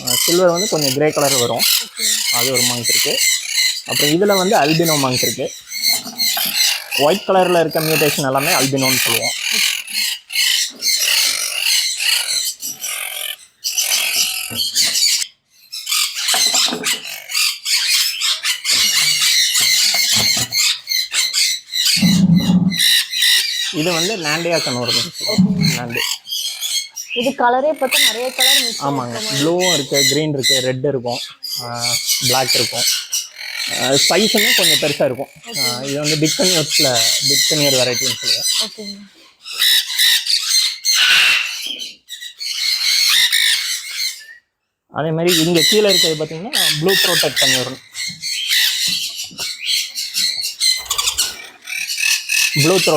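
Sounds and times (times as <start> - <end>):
parrots screeching and squawking: 0.0 - 52.9.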